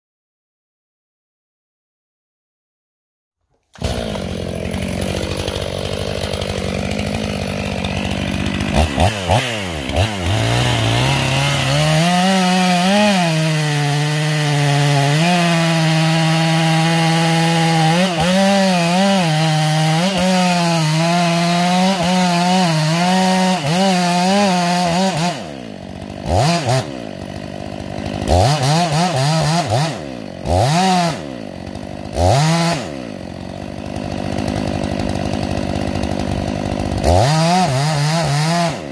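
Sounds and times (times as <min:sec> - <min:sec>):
chainsaw cutting into tree trunk: 0:03.5 - 0:38.9
chainsaw idling and revving: 0:03.5 - 0:38.9.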